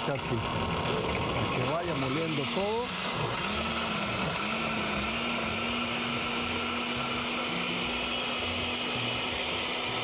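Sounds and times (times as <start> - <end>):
blender running: 0.0 - 10.0.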